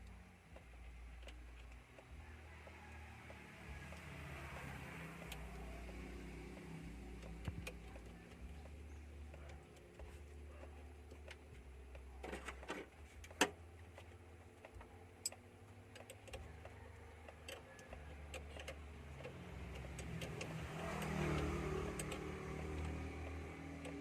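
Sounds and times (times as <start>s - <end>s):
sharp clicks and taps: 0.0s - 24.0s
vehicle engine humming: 0.0s - 24.0s.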